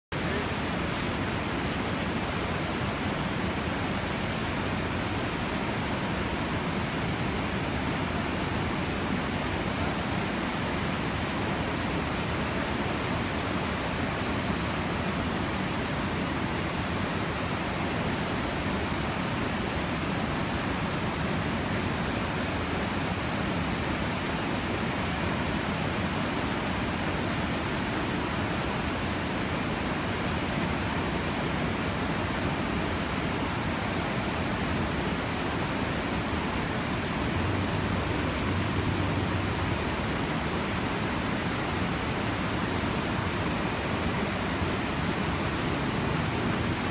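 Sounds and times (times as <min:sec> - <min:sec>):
churning whitewater river: 0:00.1 - 0:46.9
waterfall rushing: 0:00.2 - 0:46.9.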